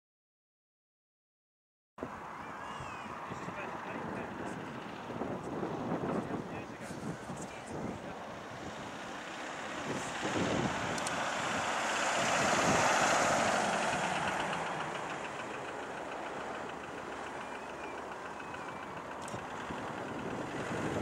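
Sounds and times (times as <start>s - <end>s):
engine roaring: 2.0s - 21.0s.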